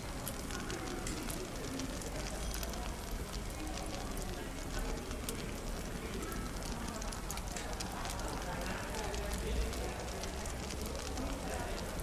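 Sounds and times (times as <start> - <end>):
fireplace crackling and popping: 0.0 - 12.0
murmur of cafe chatter: 0.0 - 12.0.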